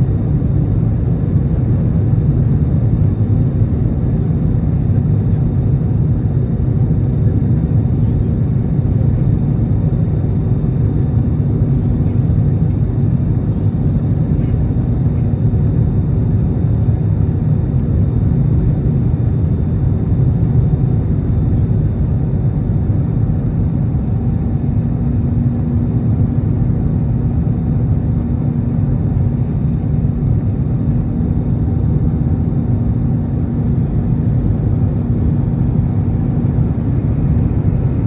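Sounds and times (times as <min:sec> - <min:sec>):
faint steady hum: 0:00.0 - 0:38.0
jet engine roar in cabin: 0:00.0 - 0:38.0.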